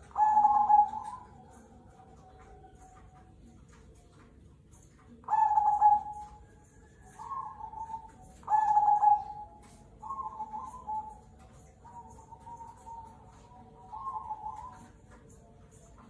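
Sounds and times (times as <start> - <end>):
zebra dove cooing: 0.0 - 3.2, 5.2 - 15.4.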